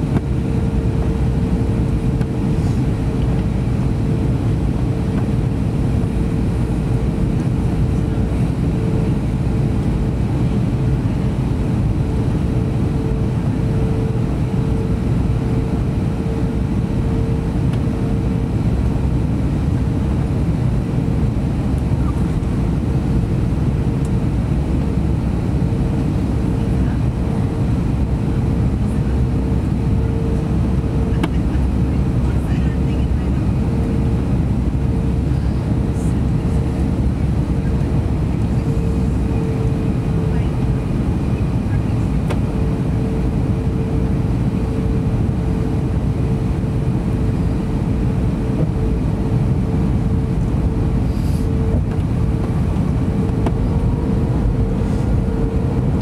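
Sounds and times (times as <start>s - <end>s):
airflow and engine rumble: 0.0s - 56.0s
mid-pitched hum: 0.0s - 56.0s.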